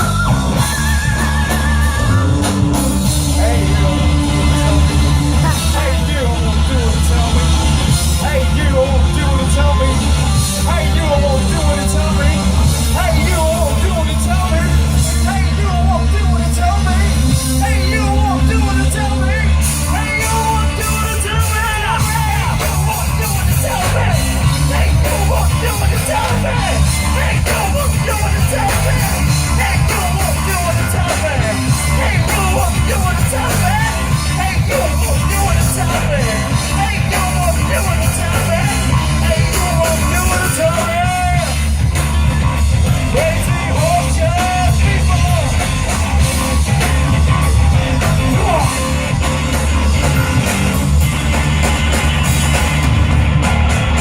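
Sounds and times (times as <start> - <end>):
rock band playing: 0.0 - 54.0
yelled singing: 0.0 - 54.0.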